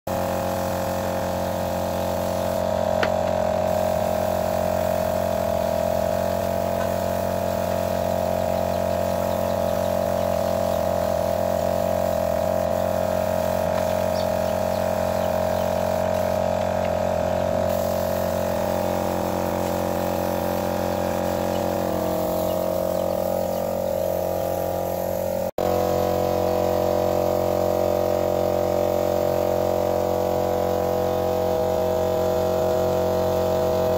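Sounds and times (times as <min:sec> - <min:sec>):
air compressor running: 0:00.0 - 0:33.9
spray gun hissing: 0:00.1 - 0:33.9.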